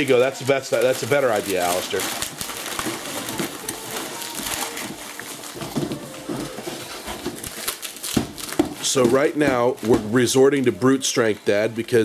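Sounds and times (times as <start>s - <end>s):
wrapping paper rustling: 0.0s - 12.0s.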